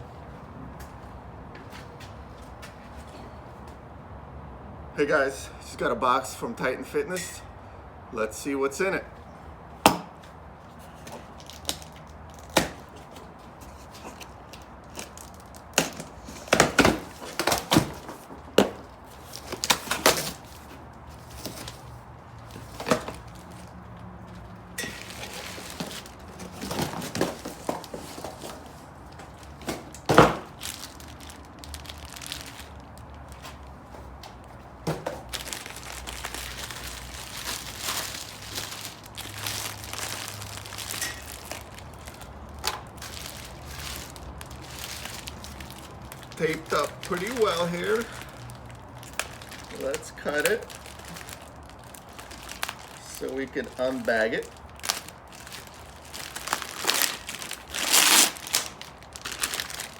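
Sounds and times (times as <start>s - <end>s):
packaging crinkling rustle: 10.8s - 59.9s.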